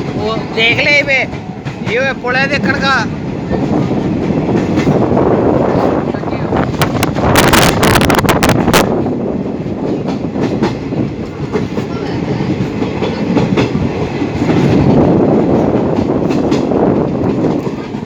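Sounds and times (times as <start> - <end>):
rail joint clicks: 0.0 - 18.0
train wheels rumbling on rails: 0.0 - 18.0.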